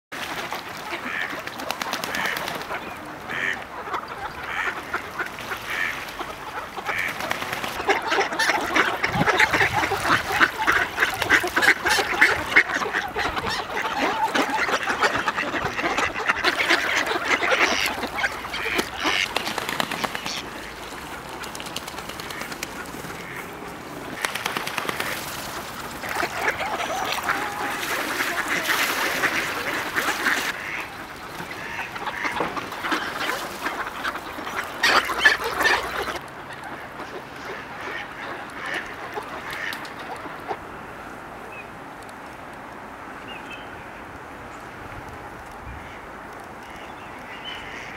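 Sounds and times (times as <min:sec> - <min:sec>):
ducks quacking: 0:00.2 - 0:40.6, 0:45.7 - 0:47.9.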